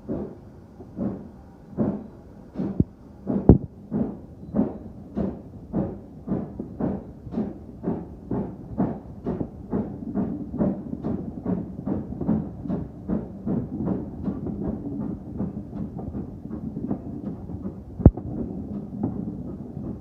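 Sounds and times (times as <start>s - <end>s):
steam locomotive exhaust beats: 0.0s - 20.0s.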